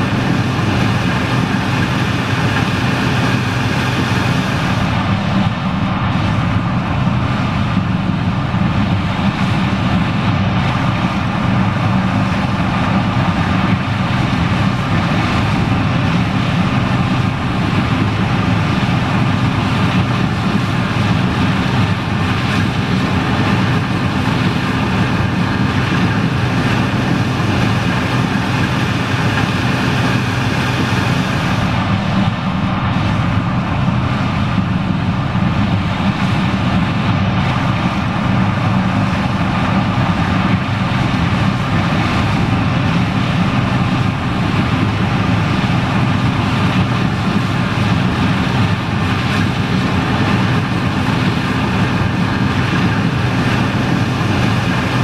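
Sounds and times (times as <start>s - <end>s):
combine and tractor engines droning: 0.0s - 55.0s.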